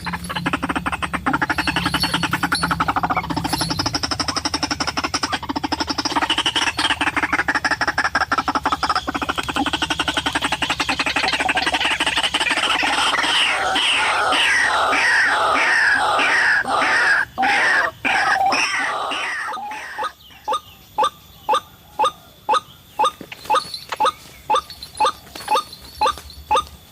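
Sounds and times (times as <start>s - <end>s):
waterhen calling: 0.0s - 26.8s.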